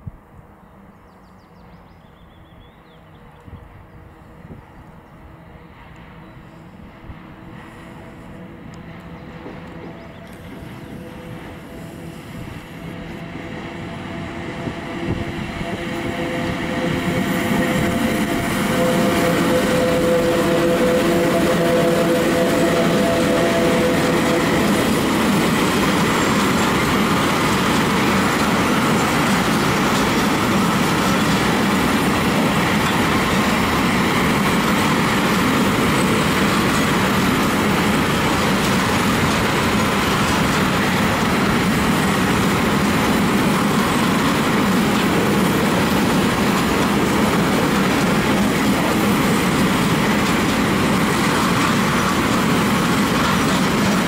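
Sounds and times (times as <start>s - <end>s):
freight train wheels rolling: 3.3s - 54.0s.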